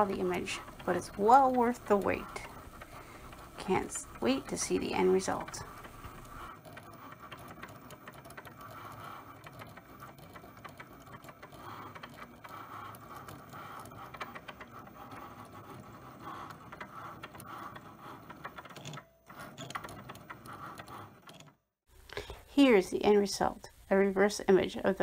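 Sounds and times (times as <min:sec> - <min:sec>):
cutting machine motors whirring: 0:00.0 - 0:21.6.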